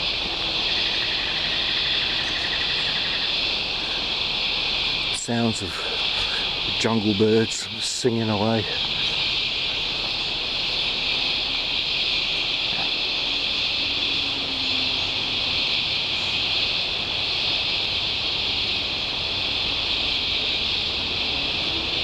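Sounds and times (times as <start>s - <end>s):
cicadas droning: 0.0s - 22.0s
distant engines rumbling: 0.0s - 22.0s.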